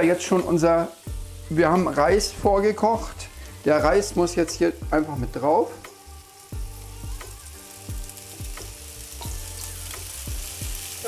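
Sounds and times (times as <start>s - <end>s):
rice sizzling on griddle: 0.0s - 11.0s.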